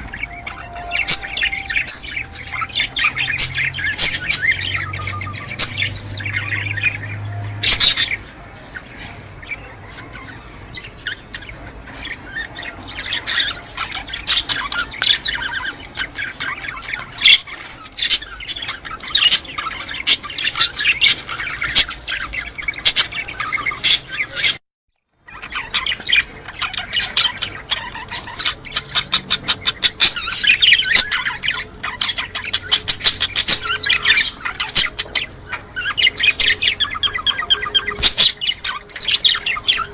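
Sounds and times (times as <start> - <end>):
small birds chirping and chattering: 0.0 - 39.9.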